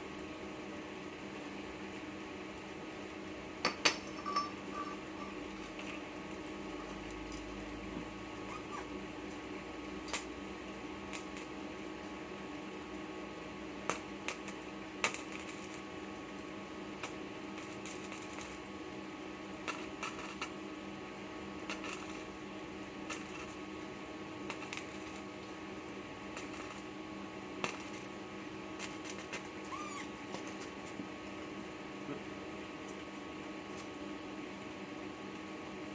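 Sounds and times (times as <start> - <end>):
inverter electrical hum with tones: 0.0 - 35.9.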